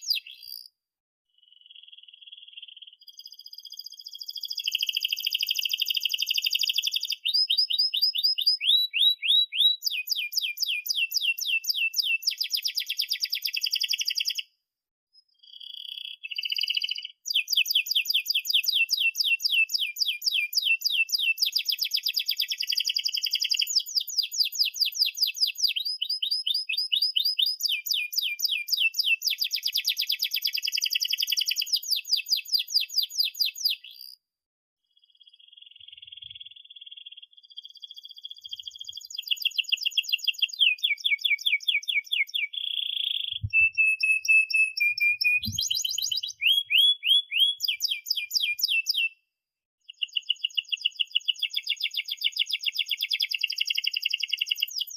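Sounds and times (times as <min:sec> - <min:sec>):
canary singing trills: 0:00.0 - 0:00.7, 0:01.4 - 0:14.5, 0:15.2 - 0:34.2, 0:35.0 - 0:49.2, 0:49.8 - 0:54.9.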